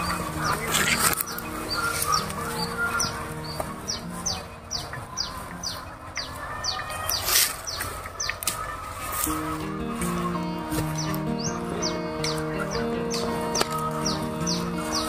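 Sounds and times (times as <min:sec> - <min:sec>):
birds chirping: 0:00.0 - 0:15.0
faint background music: 0:00.0 - 0:15.0.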